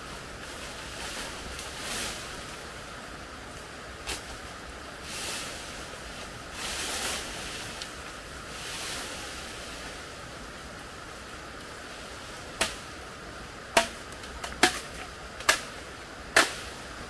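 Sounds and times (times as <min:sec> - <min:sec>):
bamboo leaves rustling: 0:00.0 - 0:17.0
steady background hiss: 0:00.0 - 0:17.0.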